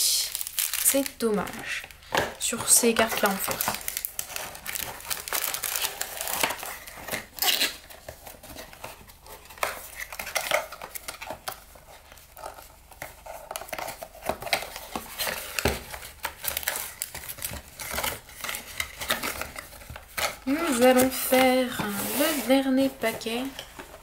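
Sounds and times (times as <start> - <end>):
cardboard and paper rustling: 0.4 - 24.0.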